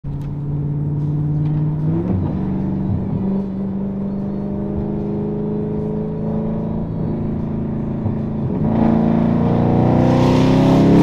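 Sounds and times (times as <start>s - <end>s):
car engine accelerating: 0.1s - 11.0s.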